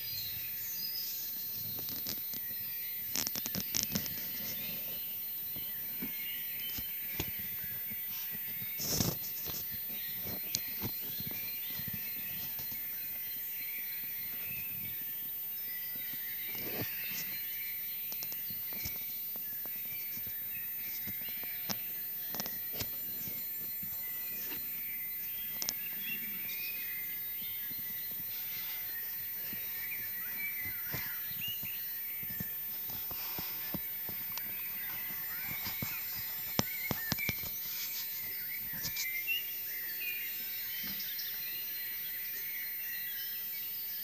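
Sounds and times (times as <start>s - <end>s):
songbirds singing: 0.0s - 44.0s.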